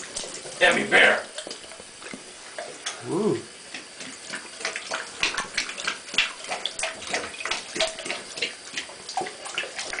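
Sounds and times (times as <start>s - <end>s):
dog lapping water: 0.0s - 10.0s
faucet trickling: 0.0s - 10.0s.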